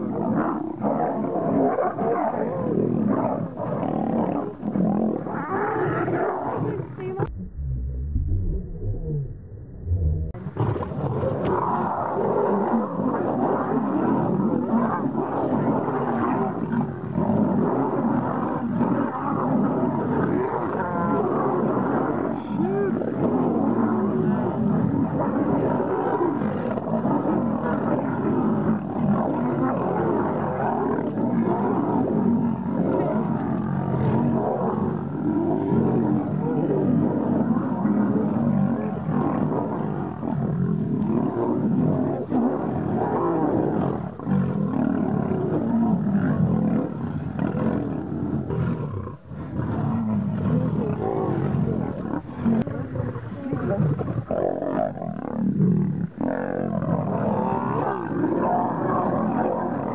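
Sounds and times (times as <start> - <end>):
lions growling and snarling: 0.0 - 7.3, 8.4 - 59.9.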